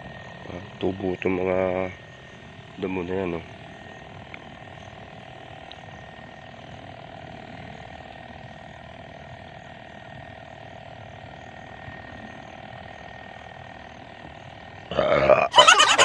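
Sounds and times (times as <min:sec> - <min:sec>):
motorized sprayer whining: 0:00.0 - 0:14.9, 0:15.5 - 0:16.0.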